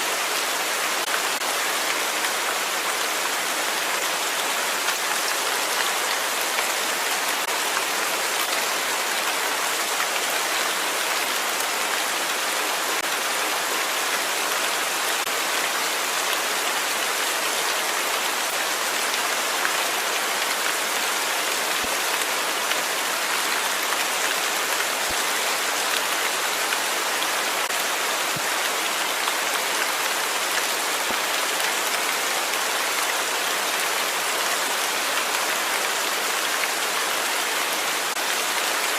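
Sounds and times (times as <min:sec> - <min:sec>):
rain pattering on a surface: 0:00.1 - 0:38.9.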